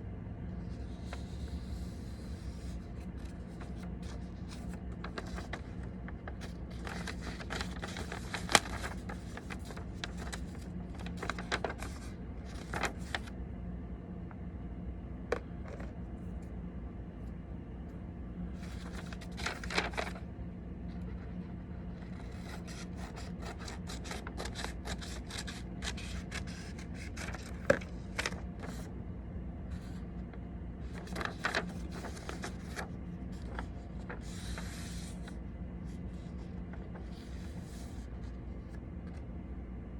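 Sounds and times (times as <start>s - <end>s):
steady low hum: 0.0s - 39.9s
paper rustling and creasing: 0.5s - 13.4s, 18.5s - 28.9s, 29.7s - 39.2s.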